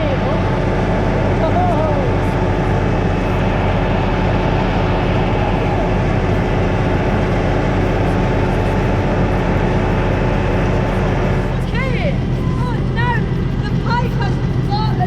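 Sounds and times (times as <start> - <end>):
slurry pump machinery droning: 0.0 - 15.0.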